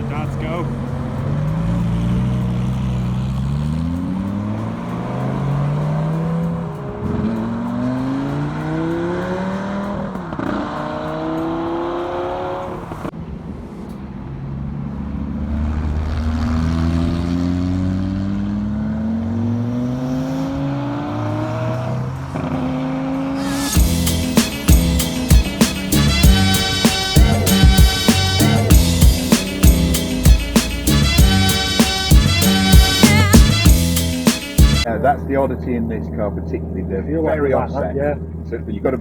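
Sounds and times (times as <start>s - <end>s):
sports car engine accelerating: 0.0s - 13.1s, 14.1s - 34.9s.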